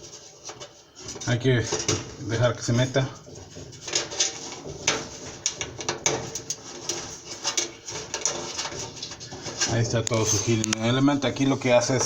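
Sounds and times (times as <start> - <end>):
sheet metal parts clicking and knocking: 0.0 - 12.0.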